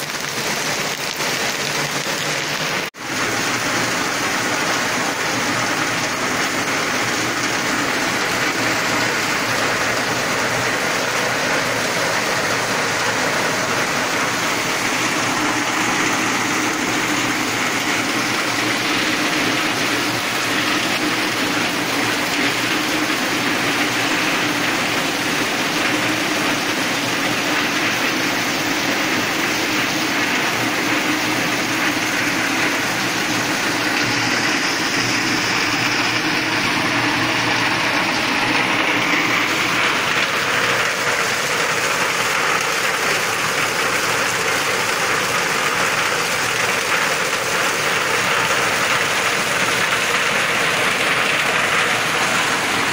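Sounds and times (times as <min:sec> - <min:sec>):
heavy rain on metal roofs: 0:00.0 - 0:52.9
runoff pouring off roof: 0:00.0 - 0:52.9.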